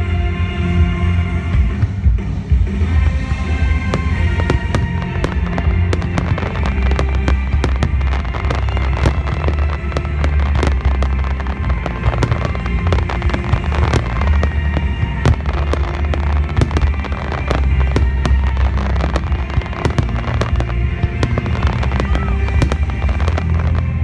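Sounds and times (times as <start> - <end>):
music playing: 0.0 - 24.0
firework booms: 3.3 - 24.0
crackling firework pops: 3.9 - 23.9.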